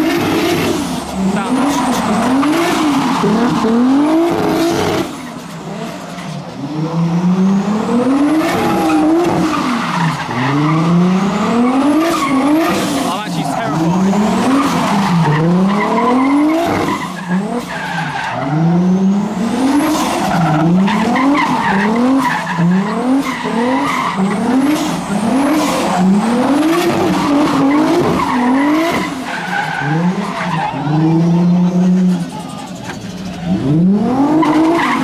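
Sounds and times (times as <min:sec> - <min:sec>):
tyres screeching: 0:00.0 - 0:06.4, 0:08.1 - 0:18.6, 0:19.8 - 0:35.0
car engine revving hard: 0:00.0 - 0:35.0.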